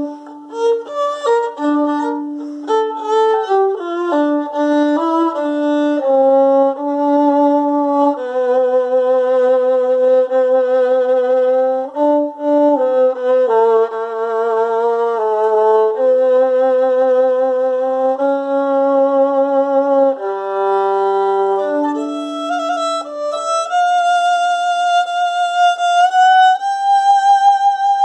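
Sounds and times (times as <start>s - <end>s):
solo violin long notes: 0.0s - 28.0s.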